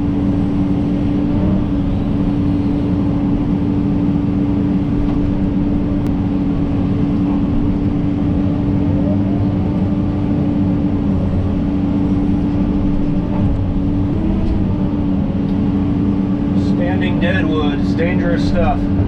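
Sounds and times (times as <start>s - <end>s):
excavator diesel rumble and whine: 0.0s - 19.0s.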